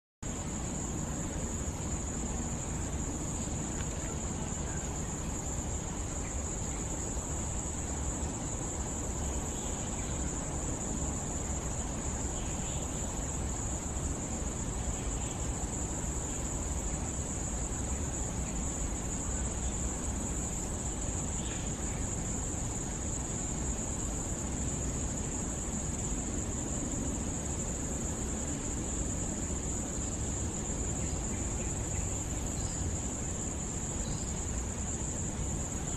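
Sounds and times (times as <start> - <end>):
insect chorus drone: 0.2 - 35.9.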